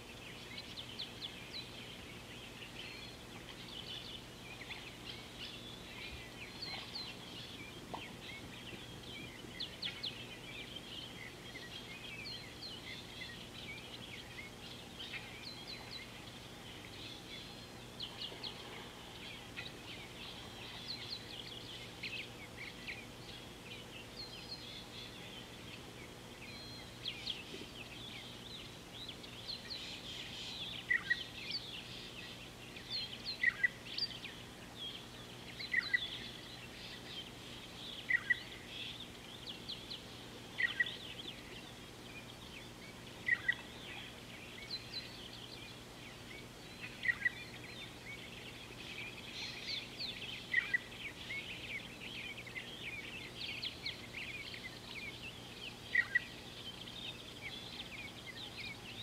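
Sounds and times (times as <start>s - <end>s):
birds chirping and trilling: 0.0s - 59.0s
faint low hum: 0.0s - 59.0s.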